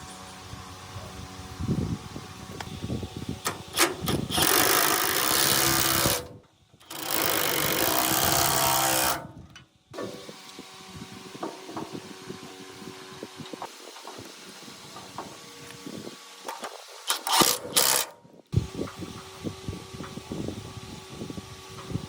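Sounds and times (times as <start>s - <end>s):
workshop tool running: 0.0s - 22.0s.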